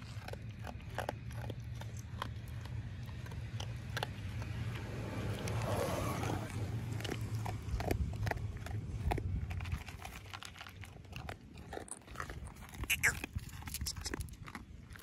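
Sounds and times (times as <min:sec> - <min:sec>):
dog crunching dry kibble: 0:00.0 - 0:15.0.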